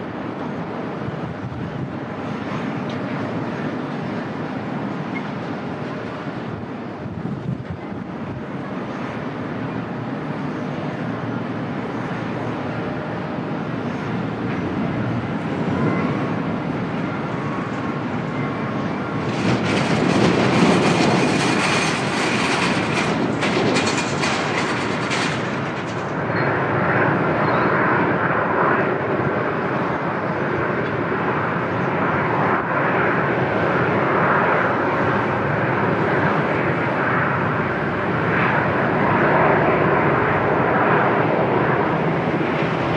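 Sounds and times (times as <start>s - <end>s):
jet airliner engines rushing: 0.0s - 42.9s.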